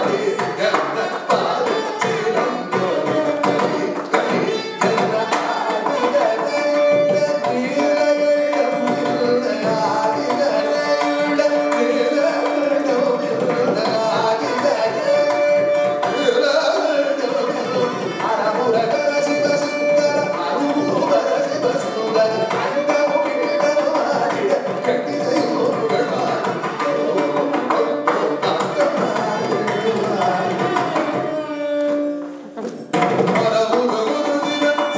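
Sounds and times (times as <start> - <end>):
man singing: 0.0 - 32.3, 32.9 - 34.9
mridangam drumming: 0.0 - 34.9.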